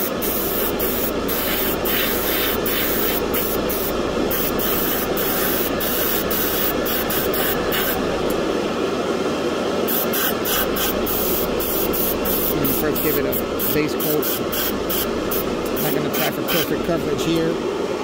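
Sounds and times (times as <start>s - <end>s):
airbrush hissing: 0.0s - 8.1s, 9.9s - 16.8s.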